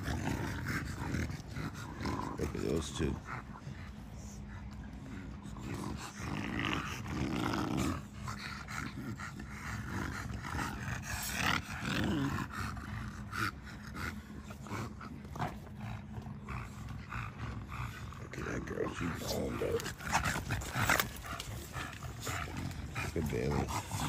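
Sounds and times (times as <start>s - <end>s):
dogs growling: 0.0s - 24.0s.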